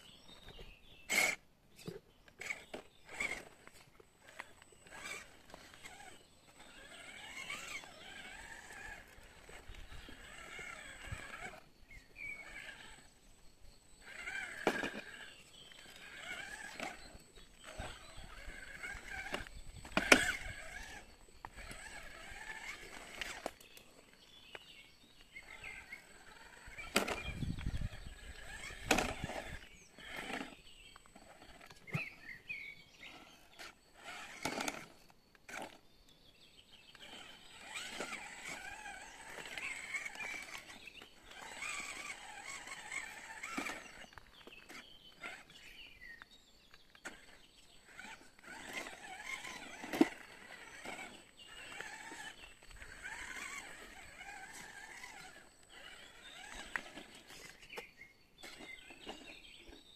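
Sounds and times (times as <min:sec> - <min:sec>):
small electric motor whining: 0:00.0 - 0:59.9.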